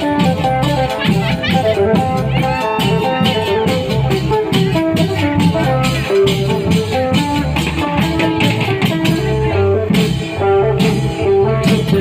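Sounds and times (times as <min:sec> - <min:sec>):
drums keeping a steady beat: 0:00.0 - 0:12.0
plucked melody: 0:00.0 - 0:12.0.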